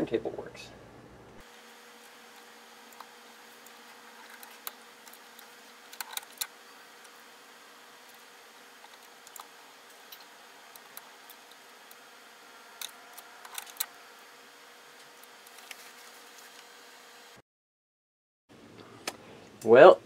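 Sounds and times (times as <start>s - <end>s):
amplifier hiss and hum: 0.0s - 17.4s, 18.5s - 20.0s.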